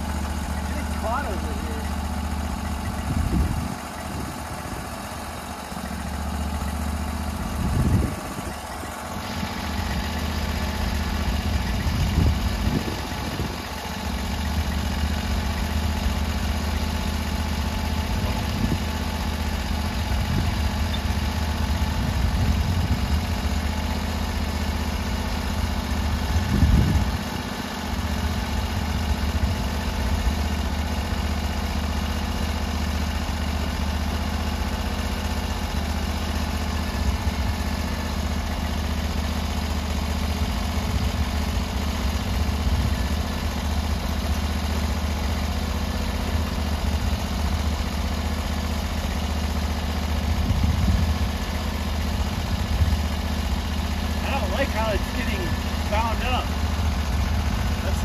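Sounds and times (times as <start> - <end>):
sawmill engine running under load: 0.0 - 58.0.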